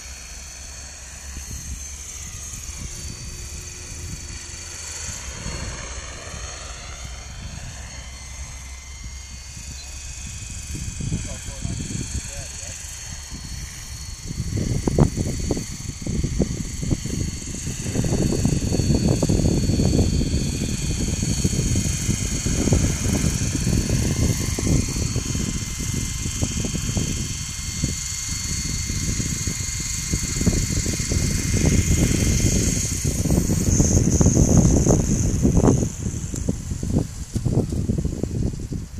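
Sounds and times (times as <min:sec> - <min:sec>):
model helicopter motor whine: 0:00.0 - 0:38.9
rotors rushing: 0:00.0 - 0:38.9.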